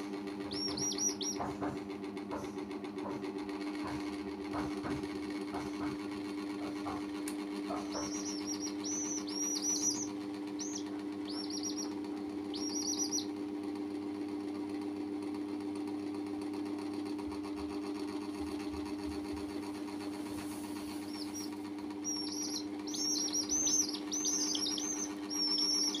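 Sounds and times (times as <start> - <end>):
chicks peeping: 0.0 - 3.2, 3.8 - 13.4, 17.1 - 26.0
steady low hum: 0.0 - 14.9, 16.4 - 26.0.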